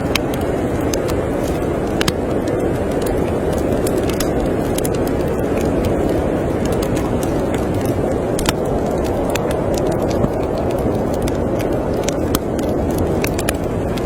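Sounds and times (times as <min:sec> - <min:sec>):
storm wind blowing: 0:00.0 - 0:14.0
wood fire crackling: 0:00.0 - 0:14.0.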